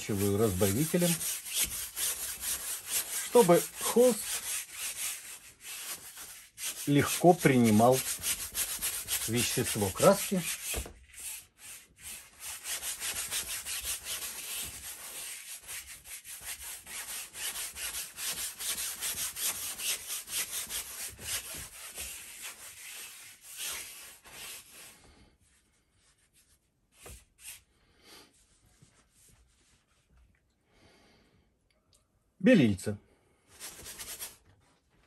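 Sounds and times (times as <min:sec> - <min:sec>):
brush scrubbing canvas: 0:00.0 - 0:27.6, 0:28.3 - 0:30.1, 0:33.6 - 0:34.8.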